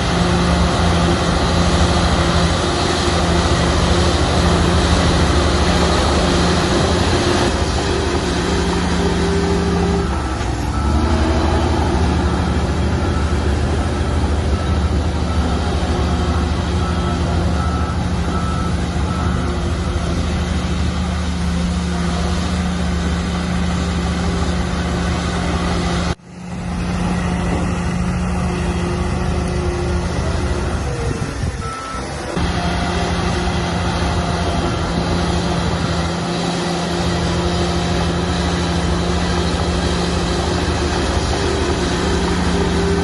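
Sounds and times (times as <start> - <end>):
diesel earthmoving machinery running: 0.0 - 43.0
reversing alarm beeping: 0.1 - 20.5, 28.5 - 43.0.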